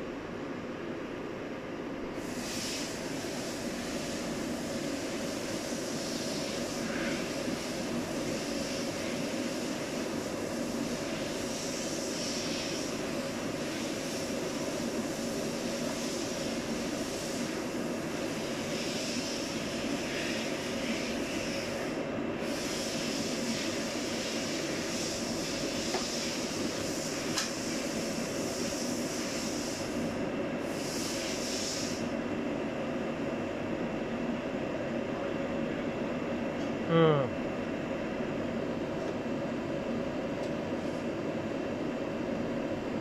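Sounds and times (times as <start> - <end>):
machine hum and whir: 0.0 - 43.0.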